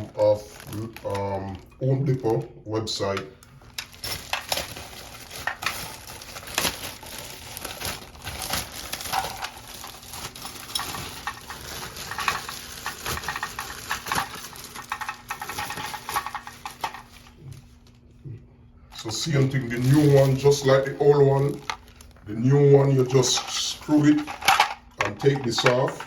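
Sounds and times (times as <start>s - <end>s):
packaging crinkling: 0.0s - 18.0s, 19.0s - 26.0s.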